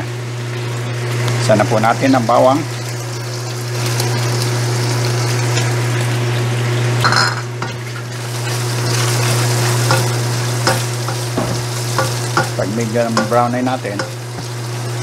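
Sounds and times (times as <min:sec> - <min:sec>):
garlic sizzling in hot oil: 0:00.4 - 0:15.0.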